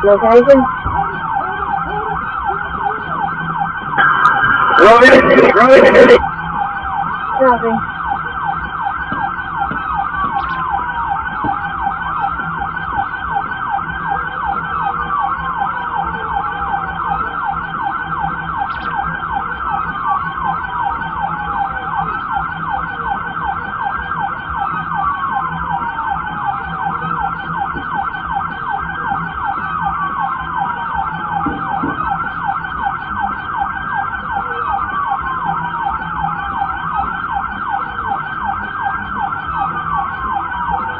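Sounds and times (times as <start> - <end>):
siren wail: 0.0 - 40.9
siren yelp: 0.0 - 40.9.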